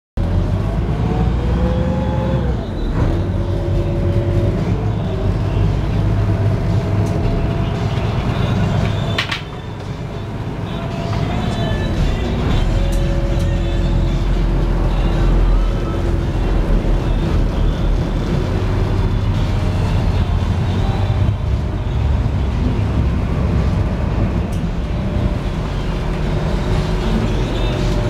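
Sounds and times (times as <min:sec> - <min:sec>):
boat engine drone: 0:00.2 - 0:28.0.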